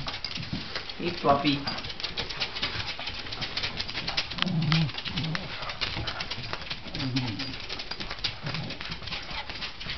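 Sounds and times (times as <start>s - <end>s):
dog claws clicking on tiles: 0.0s - 9.9s.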